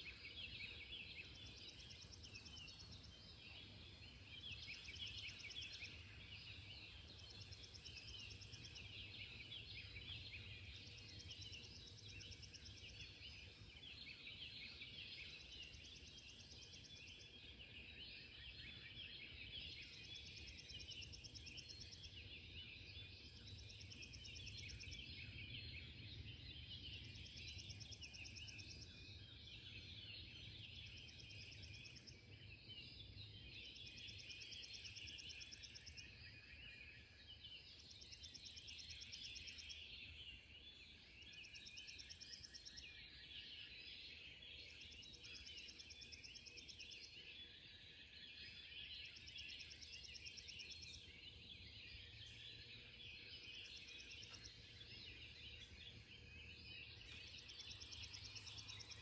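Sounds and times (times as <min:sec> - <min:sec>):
songbirds chorus: 0:00.0 - 0:59.0.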